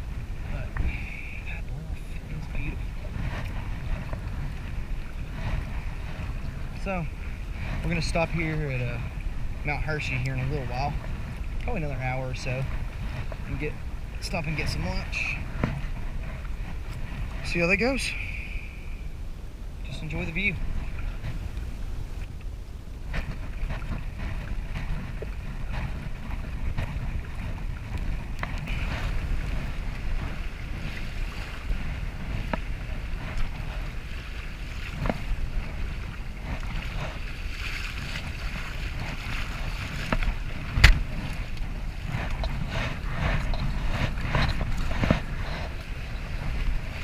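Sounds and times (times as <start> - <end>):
water splashing and lapping: 0.0 - 47.0
wind buffeting microphone: 0.0 - 47.0.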